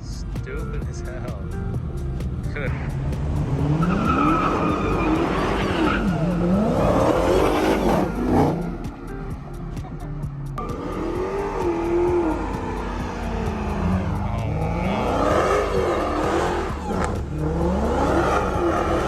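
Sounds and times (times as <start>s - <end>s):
car engine revving hard: 1.9s - 9.4s, 10.6s - 19.0s
tires squealing: 2.3s - 9.8s, 10.6s - 19.0s.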